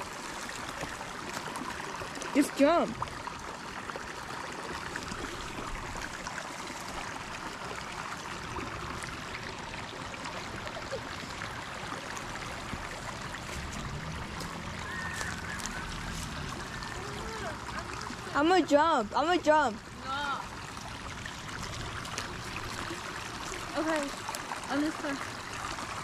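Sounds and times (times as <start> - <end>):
creek water running: 0.0 - 26.0.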